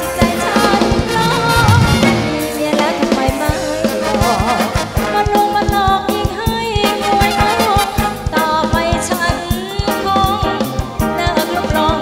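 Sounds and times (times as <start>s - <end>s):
drum kit beat: 0.0s - 12.0s
live band dance music: 0.0s - 12.0s.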